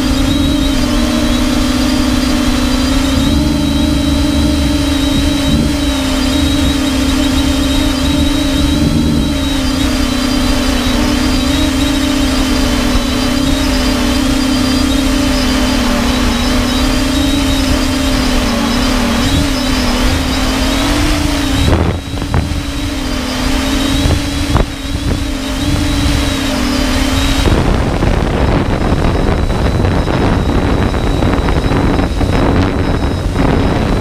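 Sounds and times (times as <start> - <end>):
drone propellers humming: 0.0 - 34.0
high motor whine: 0.0 - 34.0
rough rushing noise: 0.0 - 34.0.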